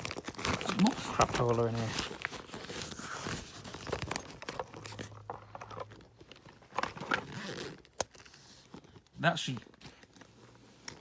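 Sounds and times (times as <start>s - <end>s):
packing material rustling: 0.0s - 11.0s
small clicks and knocks from bag: 0.0s - 11.0s.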